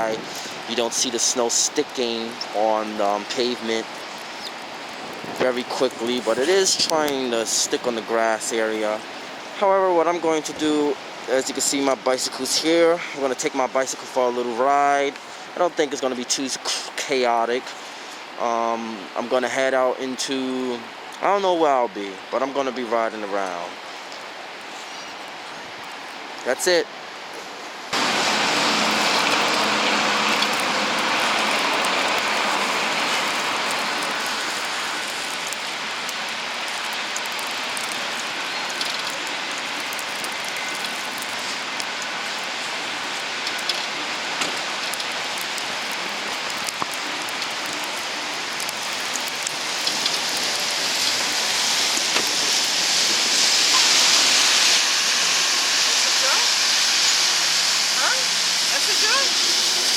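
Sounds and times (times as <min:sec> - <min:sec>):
rushing hiss of wind and tyres: 0:00.0 - 0:59.9.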